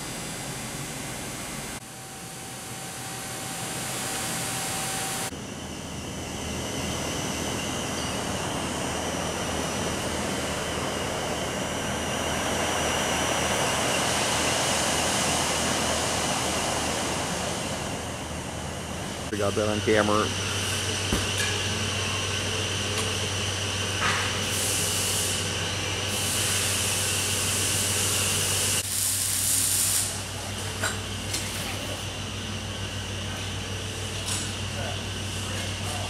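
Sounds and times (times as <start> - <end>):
factory fans and machinery: 0.0 - 36.0.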